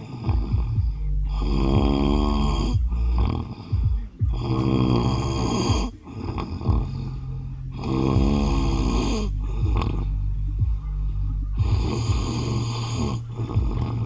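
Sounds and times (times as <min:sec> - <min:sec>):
man snoring: 0:00.0 - 0:14.0
quiet breathing: 0:00.0 - 0:14.0.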